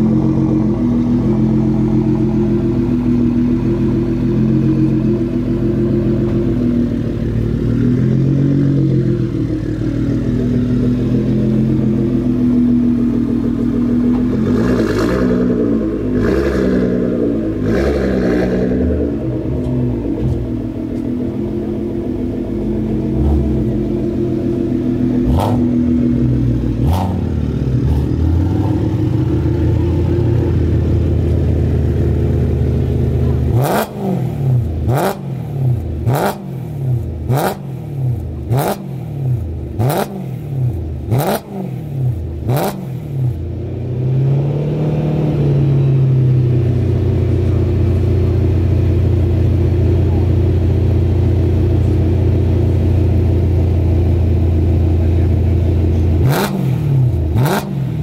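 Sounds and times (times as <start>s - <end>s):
car exhausts running loud: 0.0s - 58.0s
engine throttle blips: 0.0s - 58.0s.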